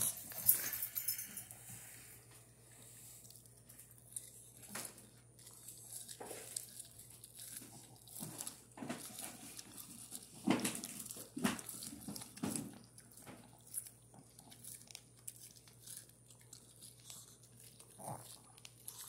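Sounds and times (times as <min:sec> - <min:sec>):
dog chewing corn: 0:02.7 - 0:19.0.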